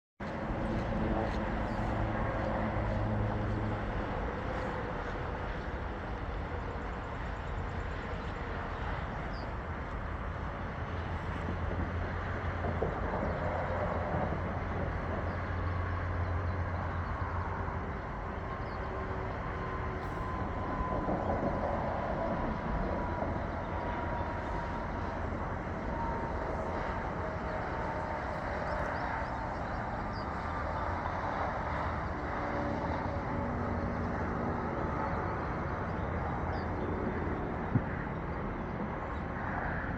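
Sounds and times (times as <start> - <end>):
train rumbling past: 0.2 - 39.9.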